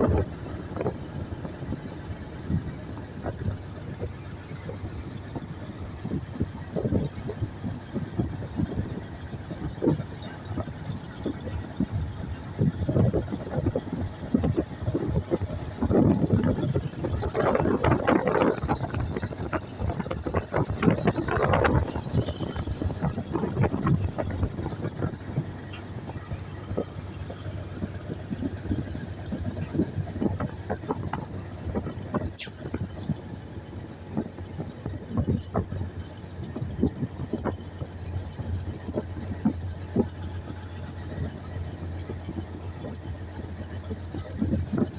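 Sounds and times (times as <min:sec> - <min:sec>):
crane engine running: 0:00.0 - 0:44.9.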